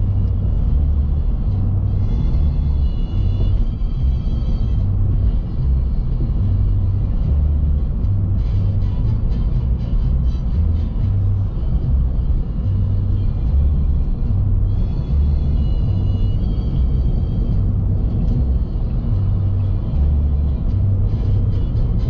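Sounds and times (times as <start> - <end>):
car cabin rumble: 0.0 - 22.0
music playing: 0.0 - 22.0.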